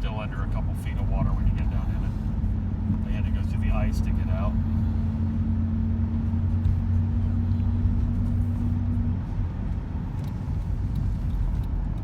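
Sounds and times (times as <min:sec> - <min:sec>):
low droning hum: 0:00.0 - 0:12.0
road and engine noise: 0:00.0 - 0:12.0.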